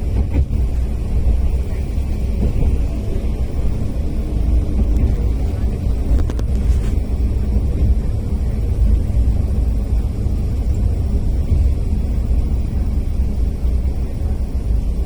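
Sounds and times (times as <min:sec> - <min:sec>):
railcar engine and wheels rumbling: 0:00.0 - 0:15.0.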